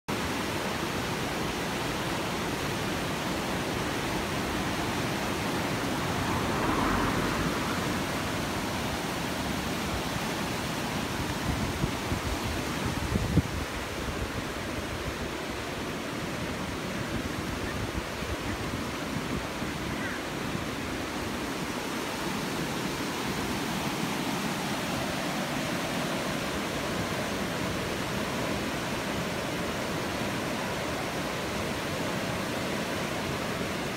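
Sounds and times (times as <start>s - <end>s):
river rushing over weir: 0.1s - 33.9s.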